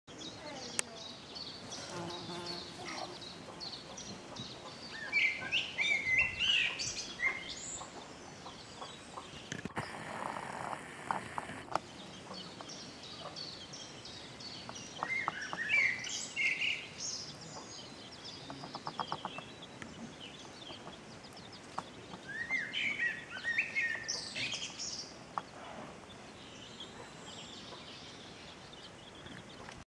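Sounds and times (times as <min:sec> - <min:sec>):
birds chirping: 0:00.1 - 0:29.8.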